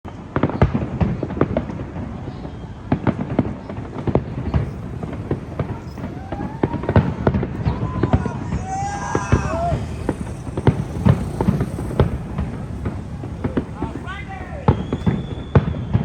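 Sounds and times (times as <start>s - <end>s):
background rumble: 0.2s - 16.0s
fireworks banging: 0.2s - 16.0s.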